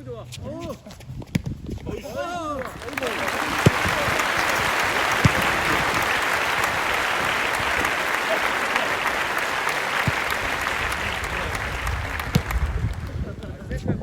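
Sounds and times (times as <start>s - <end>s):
applause: 2.4s - 13.7s.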